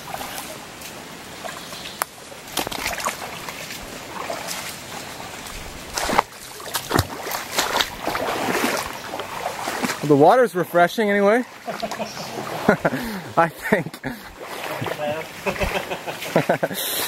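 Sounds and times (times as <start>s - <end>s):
footsteps splashing in stream: 0.0s - 17.0s.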